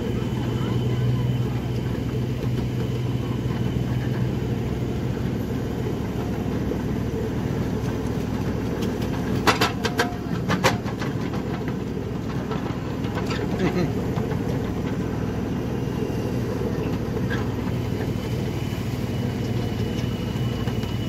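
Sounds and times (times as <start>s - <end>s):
miniature train rumbling: 0.0s - 21.0s.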